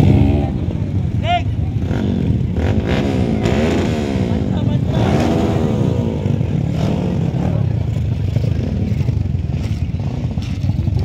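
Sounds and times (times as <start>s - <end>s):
dirt bike engines running: 0.0s - 11.0s.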